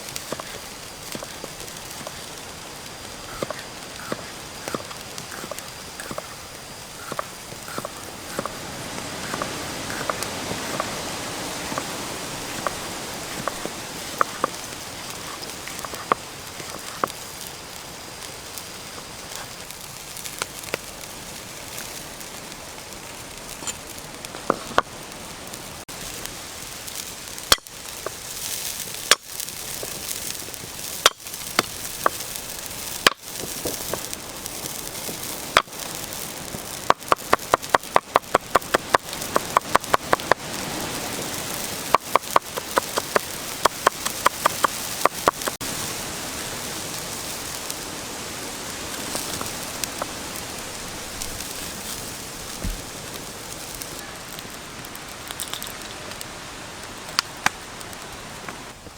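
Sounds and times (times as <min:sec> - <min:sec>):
steady hiss: 0:00.0 - 0:58.9.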